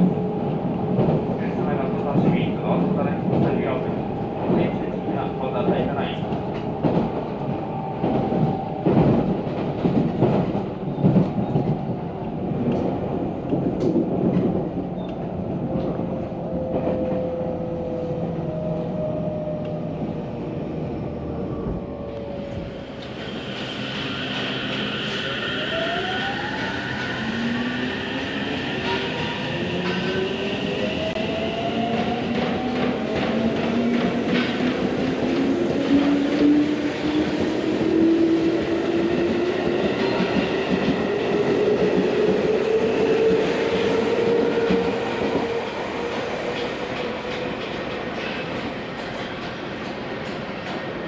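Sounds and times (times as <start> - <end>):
train rolling rumble: 0.0 - 51.0.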